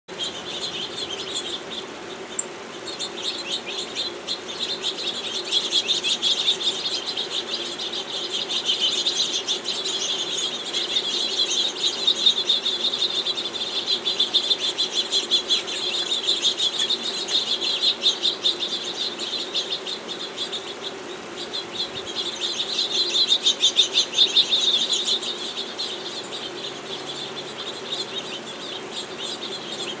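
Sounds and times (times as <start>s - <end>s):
small birds twittering: 0.1s - 30.0s.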